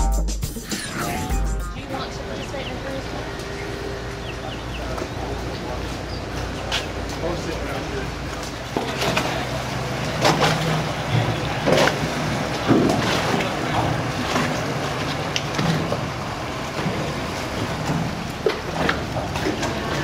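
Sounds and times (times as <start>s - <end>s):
boat engine humming: 0.0s - 20.0s
water noise: 0.6s - 20.0s.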